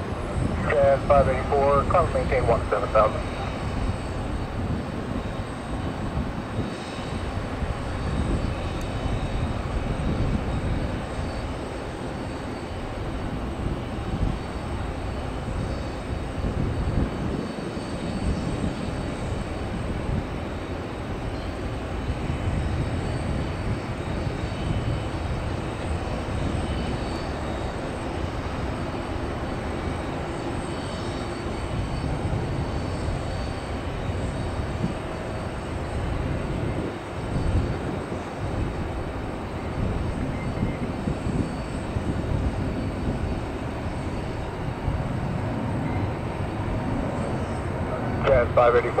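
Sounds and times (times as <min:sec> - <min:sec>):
airliner jet engines rumbling: 0:00.0 - 0:49.0.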